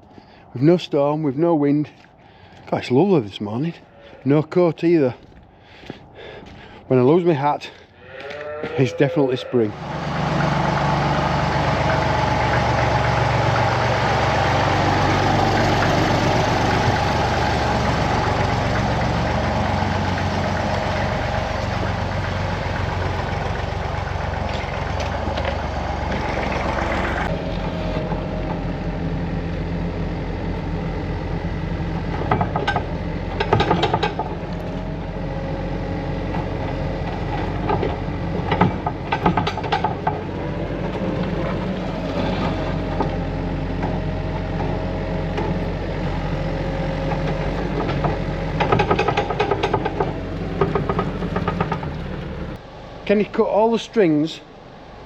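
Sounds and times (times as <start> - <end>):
engine rumbling: 0.0 - 55.0.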